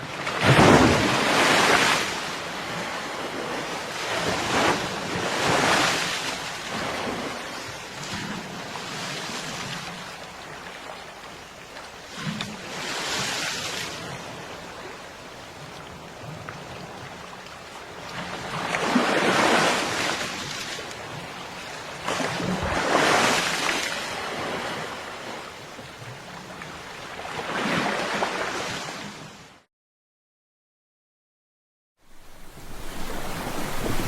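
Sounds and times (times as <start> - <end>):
ocean waves breaking: 0.0 - 29.6, 32.1 - 34.0.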